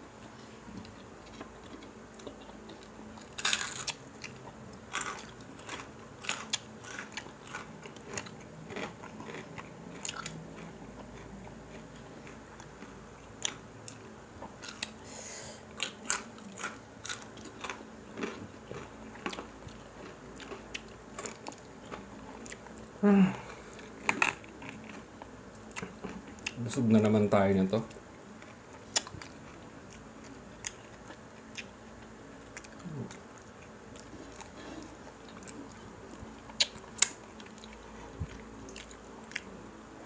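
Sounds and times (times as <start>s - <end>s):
crunching and chewing food: 0.1s - 40.0s.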